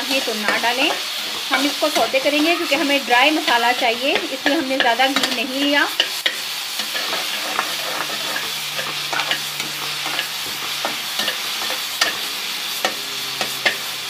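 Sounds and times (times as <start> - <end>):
onion sizzling in a pan: 0.0 - 14.0
spoon scraping pan: 0.1 - 13.9.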